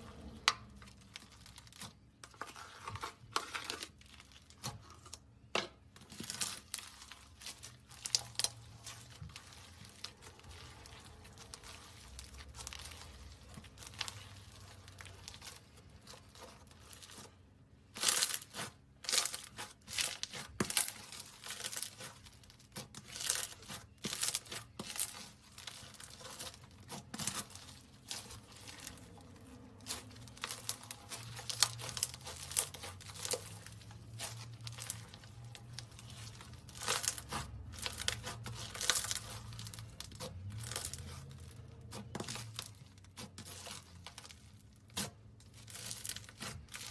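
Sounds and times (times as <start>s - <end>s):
slime crackling and popping: 0.2s - 46.9s.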